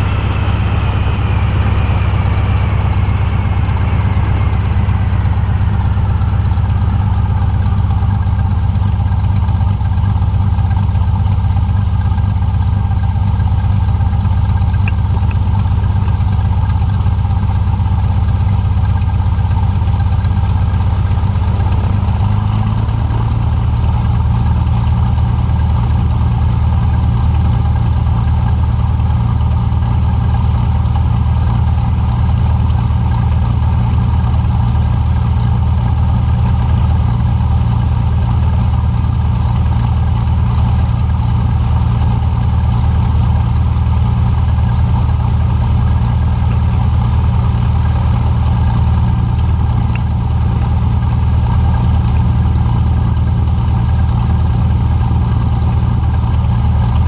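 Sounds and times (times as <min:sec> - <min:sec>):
light airplane engine and propeller: 0:00.0 - 0:57.0.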